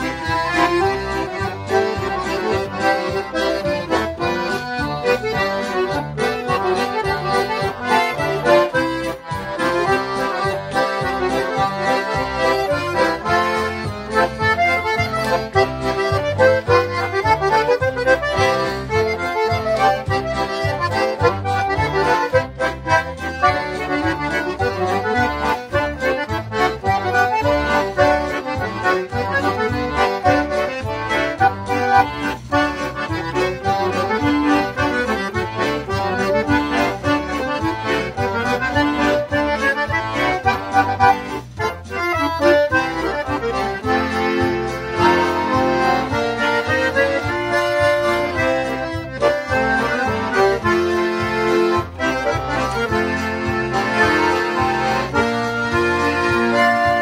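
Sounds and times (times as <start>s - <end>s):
concertina duet: 0.0s - 57.0s.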